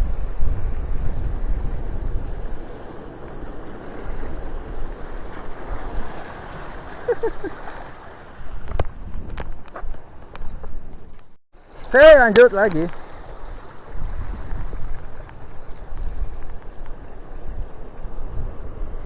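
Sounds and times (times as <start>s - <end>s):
sea surf washing: 0.0s - 10.4s, 11.6s - 19.0s
wind buffeting microphone: 0.0s - 11.4s, 12.0s - 19.0s.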